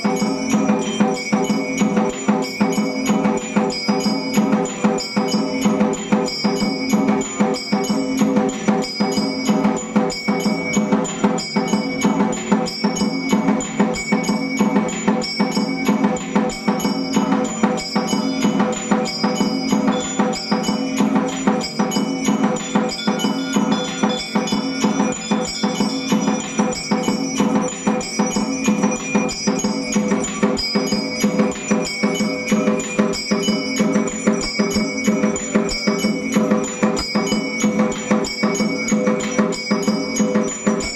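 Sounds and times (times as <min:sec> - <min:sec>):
mechanical strikers beating bells: 0:00.0 - 0:40.9.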